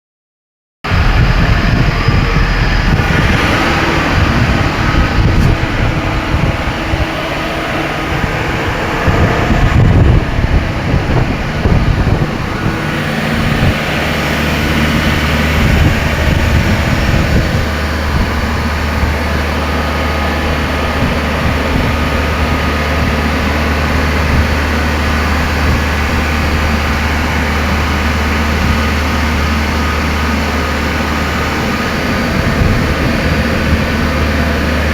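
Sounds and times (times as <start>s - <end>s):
refrigeration unit droning: 0.9s - 34.9s.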